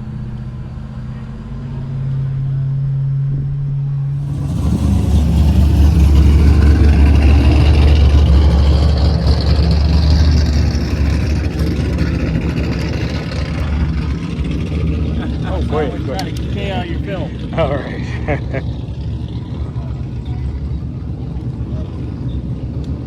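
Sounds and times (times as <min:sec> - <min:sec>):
car engine humming: 0:00.0 - 0:23.0
deep exhaust rumble: 0:00.0 - 0:23.0.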